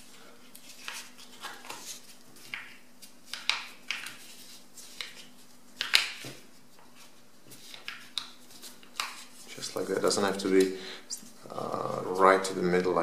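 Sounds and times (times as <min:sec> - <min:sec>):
faint steady hum: 0:00.0 - 0:13.0
paper folding and crinkling: 0:00.0 - 0:13.0.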